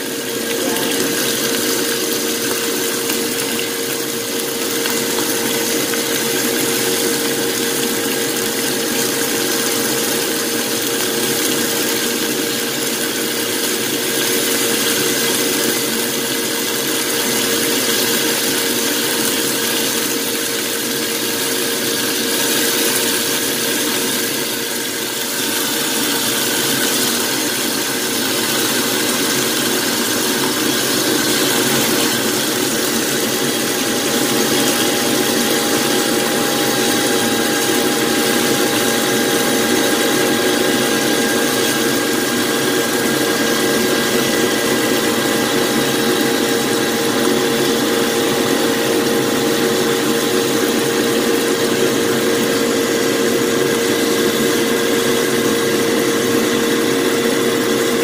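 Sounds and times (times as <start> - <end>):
mechanical hum: 0.0 - 58.0
pork sizzling in frying pan: 0.0 - 58.0.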